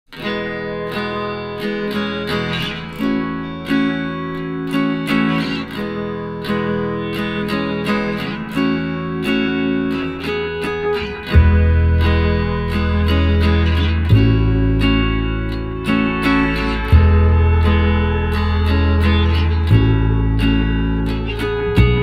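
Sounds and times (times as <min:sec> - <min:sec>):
acoustic guitar picking and strumming: 0:00.1 - 0:22.0.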